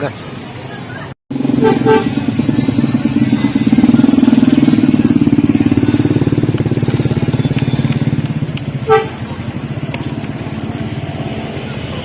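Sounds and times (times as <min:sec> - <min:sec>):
vehicle engine running: 0:01.3 - 0:12.0.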